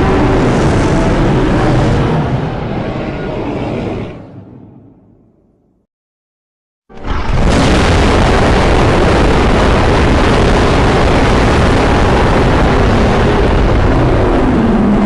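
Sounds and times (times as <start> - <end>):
rumbling monster roar: 0.0 - 4.2, 6.9 - 15.0.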